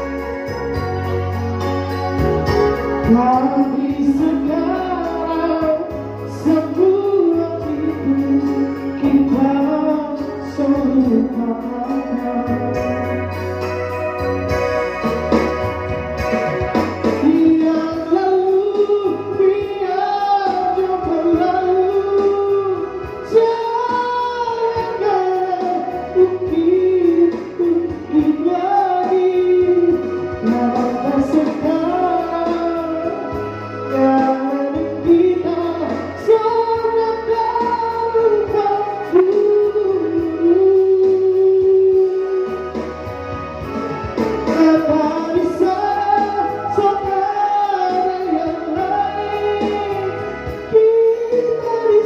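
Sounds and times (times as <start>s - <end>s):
man singing into a microphone: 0.0s - 14.3s, 16.9s - 52.0s
electronic keyboard: 0.0s - 52.0s.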